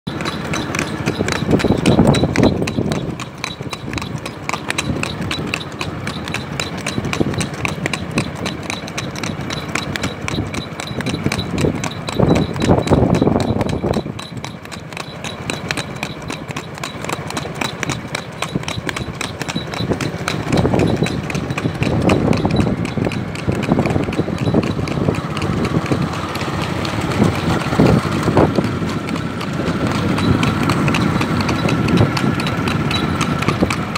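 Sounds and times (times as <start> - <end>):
horse hooves on asphalt: 0.1 - 33.9.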